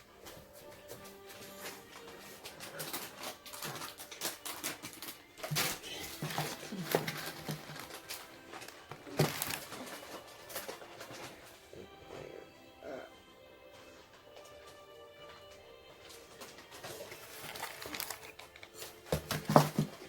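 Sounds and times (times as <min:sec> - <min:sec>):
dishes and packaging clinking: 0:00.0 - 0:11.9, 0:13.7 - 0:20.0.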